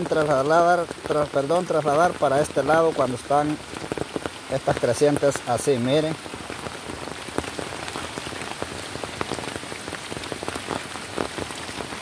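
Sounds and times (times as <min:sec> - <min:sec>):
raindrops ticking: 0:00.0 - 0:12.0.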